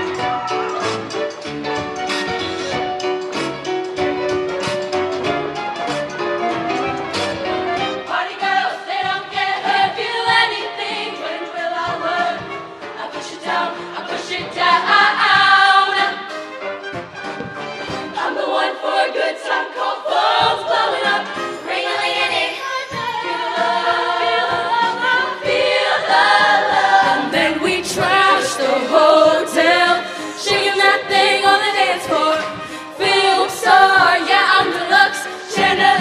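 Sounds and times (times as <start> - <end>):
choir singing in harmony: 6.7 - 36.0.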